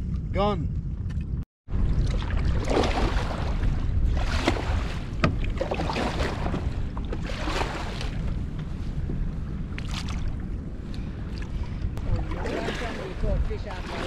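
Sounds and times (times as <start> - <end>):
wind rumbling on microphone: 0.0 - 14.0
water lapping against kayak: 1.7 - 14.0.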